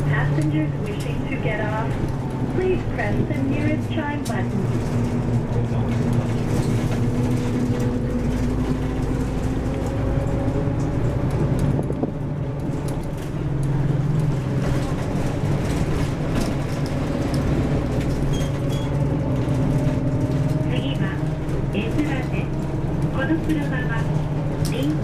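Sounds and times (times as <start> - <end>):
bus engine droning: 0.0 - 25.0
road noise: 0.0 - 25.0.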